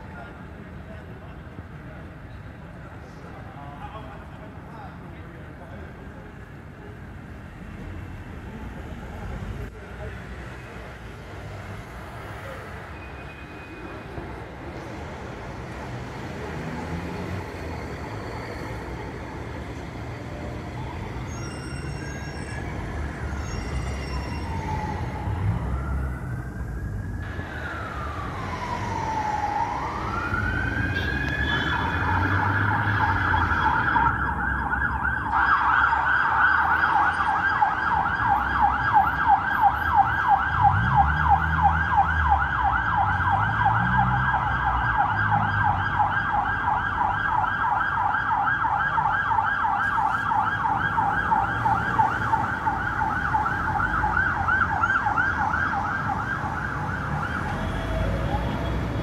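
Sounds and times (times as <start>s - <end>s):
traffic noise: 0.0s - 59.0s
emergency vehicle siren: 11.8s - 59.0s.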